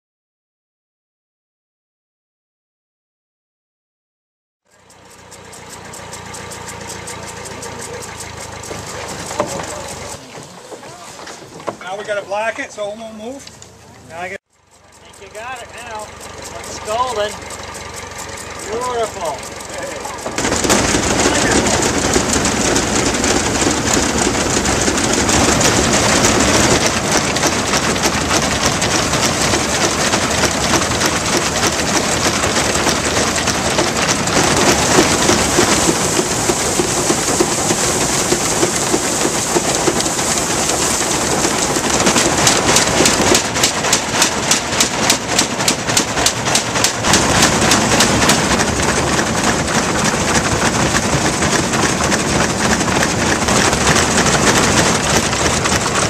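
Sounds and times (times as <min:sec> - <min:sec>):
fast regular clicking: 0:04.7 - 0:12.2, 0:14.4 - 0:56.0
threshing machine clatter: 0:04.7 - 0:56.0.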